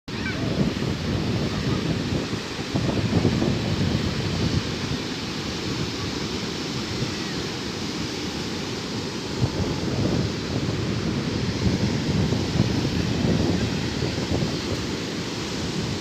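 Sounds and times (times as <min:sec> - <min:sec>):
sea surf washing on shore: 0:00.1 - 0:16.0
wind buffeting microphone: 0:00.1 - 0:16.0.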